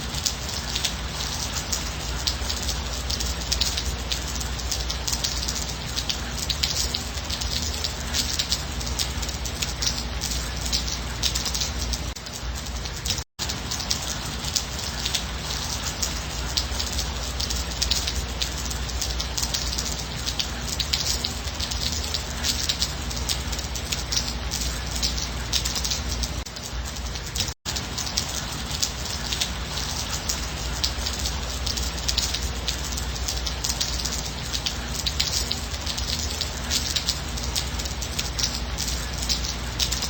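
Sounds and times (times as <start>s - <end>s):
steady rain patter: 0.0s - 40.0s.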